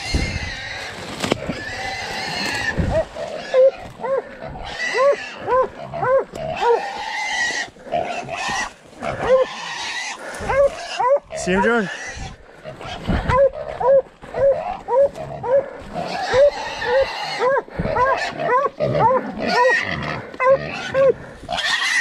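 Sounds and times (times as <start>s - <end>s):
wild hog squealing: 0.0s - 22.0s.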